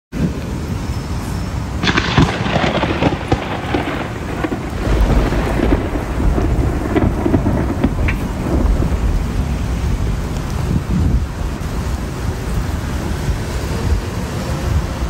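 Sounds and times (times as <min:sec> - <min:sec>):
heavy rain falling: 0:00.2 - 0:15.0
thunder rumbling: 0:00.2 - 0:15.0.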